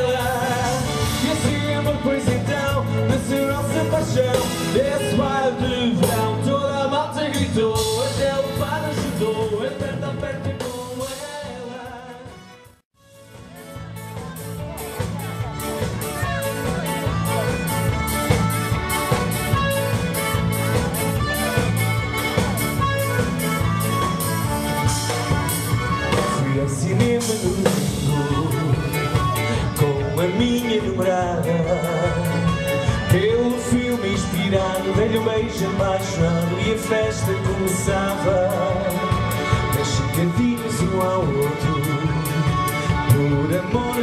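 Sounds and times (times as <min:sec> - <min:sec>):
drum kit beat: 0:00.0 - 0:44.0
live band playing dance music: 0:00.0 - 0:44.0.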